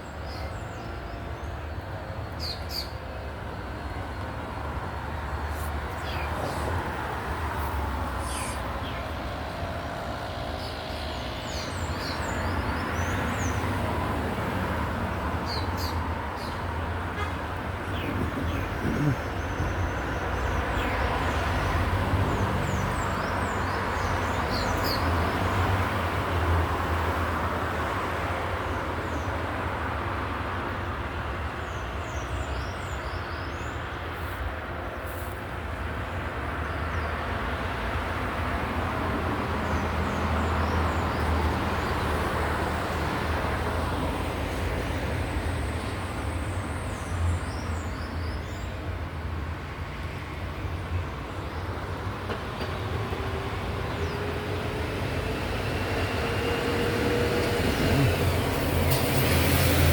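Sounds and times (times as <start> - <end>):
low rumble of road traffic: 0.0 - 59.9.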